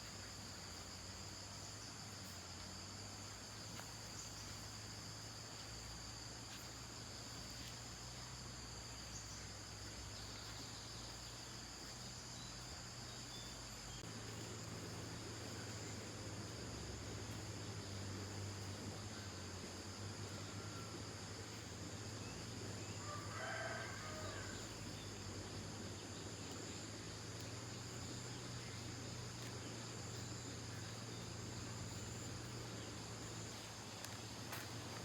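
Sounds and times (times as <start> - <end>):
insects chirping: 0.0 - 35.0.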